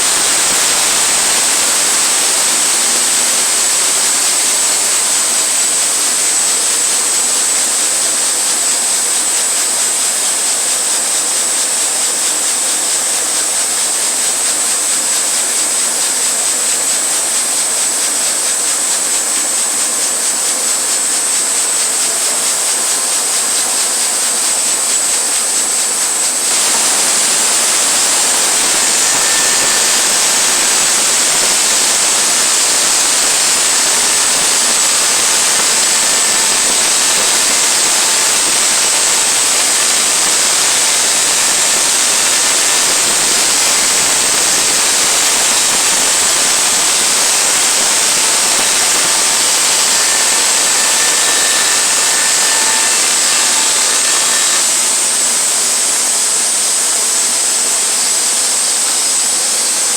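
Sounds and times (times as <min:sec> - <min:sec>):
sawmill cutting log with whine: 0:00.0 - 0:59.9.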